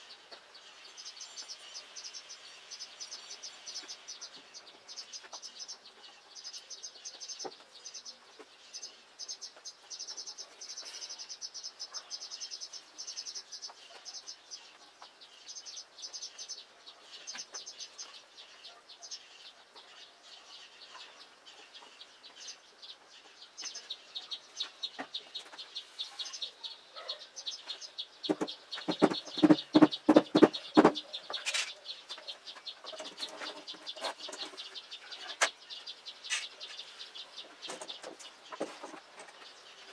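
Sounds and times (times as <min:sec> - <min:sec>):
birds calling: 0:00.0 - 0:39.9.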